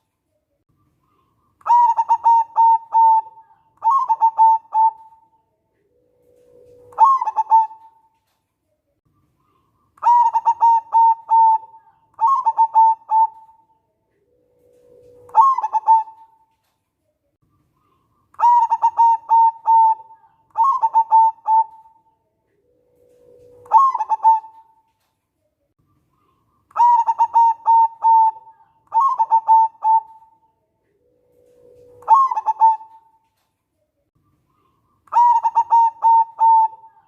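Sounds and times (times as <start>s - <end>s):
dove cooing: 1.1s - 8.2s, 9.5s - 16.5s, 17.8s - 24.9s, 26.2s - 33.3s, 34.6s - 37.0s.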